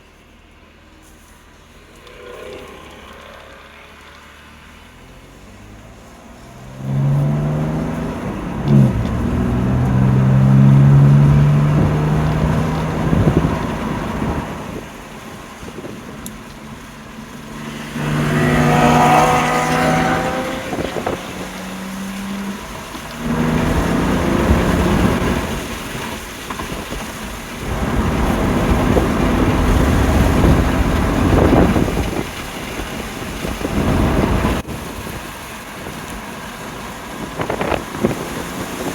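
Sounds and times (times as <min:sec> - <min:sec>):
wind and road noise: 0:00.0 - 0:38.9
car engine accelerating hard: 0:01.0 - 0:38.9.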